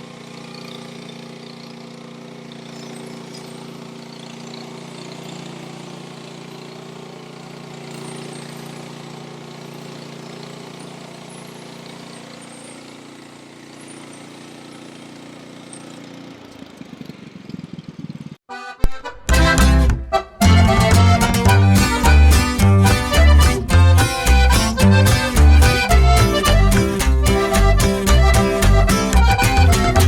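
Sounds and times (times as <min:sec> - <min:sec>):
sawmill gas engine running: 0:00.0 - 0:18.4, 0:19.3 - 0:30.0.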